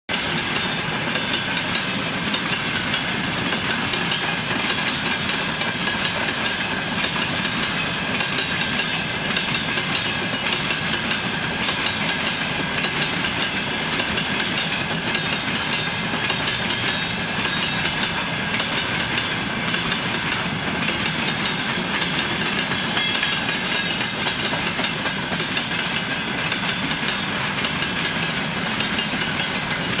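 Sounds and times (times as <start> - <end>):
train wheels clickety-clack: 0.1 - 30.0.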